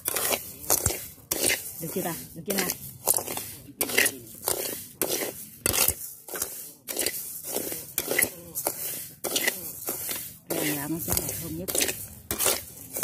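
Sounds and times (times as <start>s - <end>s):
spatula scraping rice in pan: 0.0s - 13.0s.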